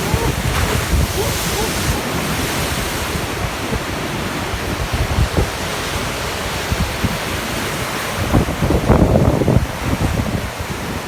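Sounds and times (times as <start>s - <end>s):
waves breaking: 0.0s - 11.0s
wind buffeting microphone: 0.0s - 11.0s.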